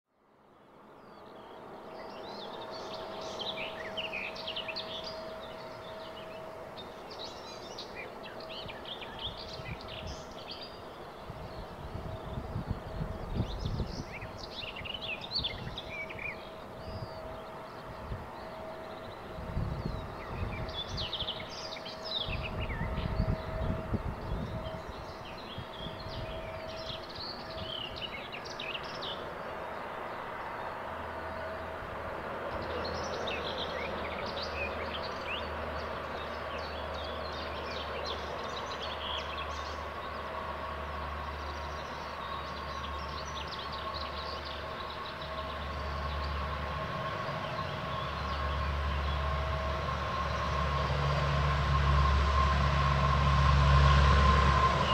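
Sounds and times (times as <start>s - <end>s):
propeller aircraft drone: 0.3s - 54.9s
birds chirping: 0.9s - 31.7s, 32.4s - 51.2s
high engine whine: 1.5s - 54.9s.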